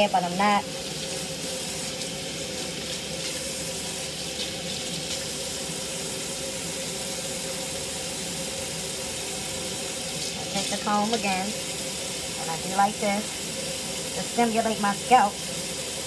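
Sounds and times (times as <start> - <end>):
faucet running into steel sink: 0.0 - 16.0.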